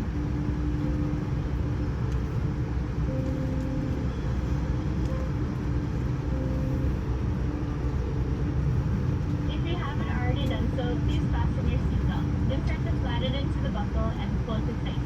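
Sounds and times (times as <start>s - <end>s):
aircraft cabin rumble and hum: 0.0s - 15.0s.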